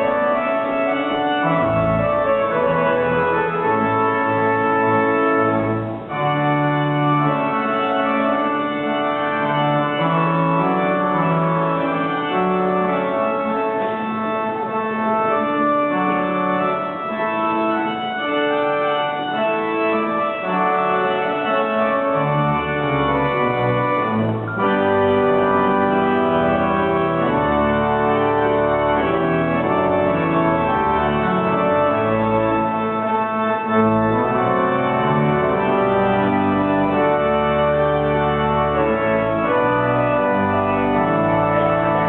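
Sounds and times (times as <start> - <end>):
pipe organ playing chords: 0.0 - 42.0.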